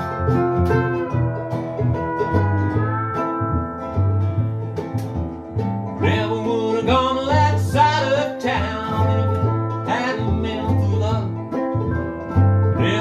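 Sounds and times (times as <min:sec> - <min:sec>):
acoustic string band playing country: 0:00.0 - 0:13.0
bowed cello bass: 0:00.0 - 0:13.0.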